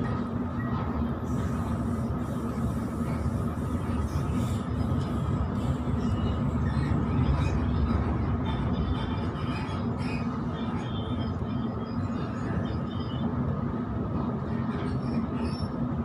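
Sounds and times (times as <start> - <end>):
passing train: 0.0 - 16.0
train hum: 0.0 - 16.0
train wheels rumbling on rail: 0.0 - 16.0.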